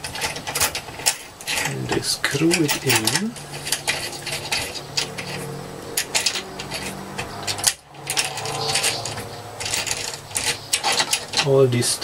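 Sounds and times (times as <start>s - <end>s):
small metal parts clicking: 0.0s - 12.0s.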